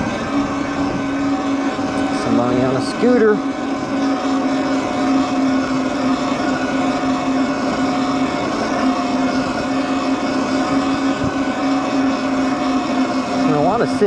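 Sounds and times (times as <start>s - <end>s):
electric bike motor whining: 0.0s - 14.0s
road noise: 0.0s - 14.0s.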